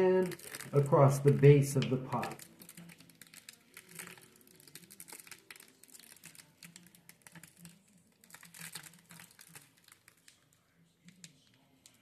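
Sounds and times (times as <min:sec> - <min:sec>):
small irregular clicks: 0:00.2 - 0:12.0.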